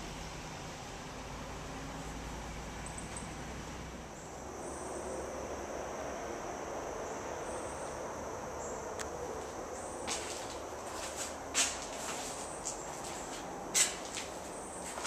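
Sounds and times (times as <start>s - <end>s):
insects buzzing: 0.0s - 15.0s
outdoor background hiss: 0.0s - 15.0s.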